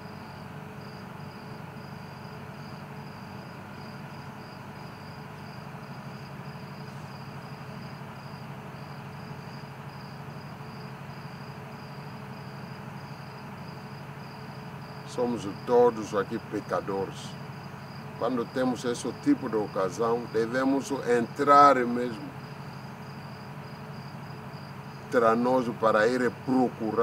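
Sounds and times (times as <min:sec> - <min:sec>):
cricket chirping: 0:00.0 - 0:27.0
low background hum: 0:00.0 - 0:27.0.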